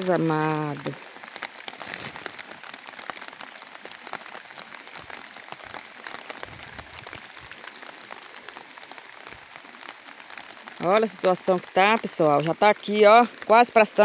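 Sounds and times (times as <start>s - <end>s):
heavy rain hiss: 0.0s - 14.0s
raindrops ticking: 0.0s - 14.0s.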